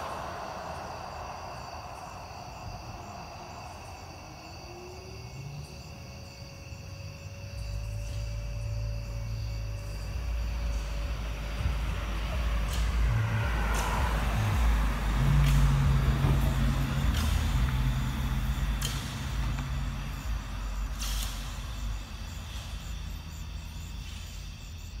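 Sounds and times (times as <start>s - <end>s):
trolleybus passing: 0.0s - 25.0s.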